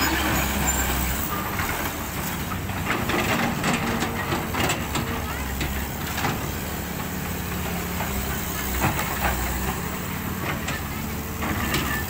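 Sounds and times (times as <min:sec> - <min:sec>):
diesel excavator engine running: 0:00.0 - 0:12.0.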